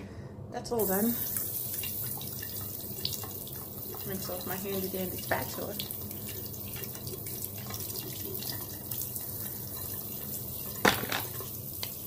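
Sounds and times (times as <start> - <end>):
tap water running into sink: 0.8 - 12.0.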